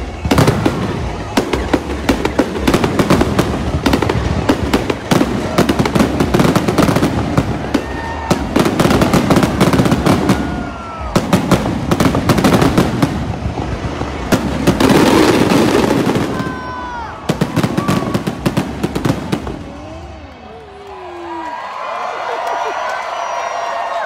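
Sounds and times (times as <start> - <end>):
fireworks bangs and crackling: 0.0 - 20.4.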